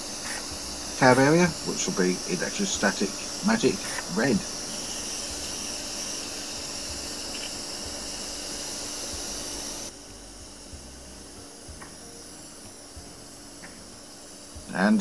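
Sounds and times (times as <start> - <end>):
extractor fan: 0.0 - 15.0
powder coating gun air hiss: 0.0 - 15.0.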